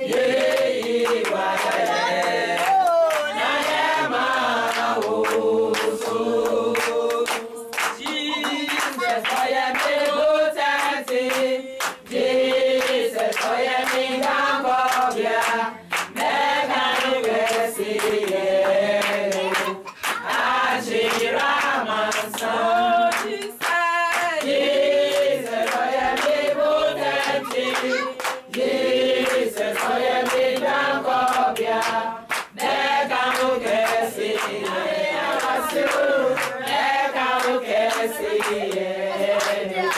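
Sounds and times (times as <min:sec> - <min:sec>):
group of people singing: 0:00.0 - 0:39.9
hand-clapping: 0:00.0 - 0:39.9.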